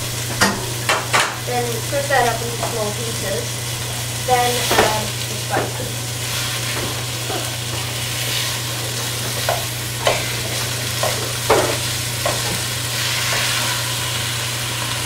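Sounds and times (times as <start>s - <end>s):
meat and vegetables sizzling: 0.0s - 15.0s
steady low hum: 0.0s - 15.0s.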